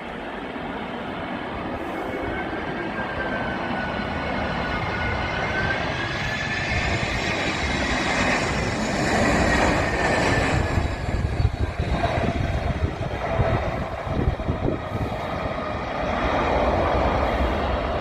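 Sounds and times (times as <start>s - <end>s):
jet engines whining: 0.0s - 18.0s
wind buffeting microphone: 1.5s - 18.0s.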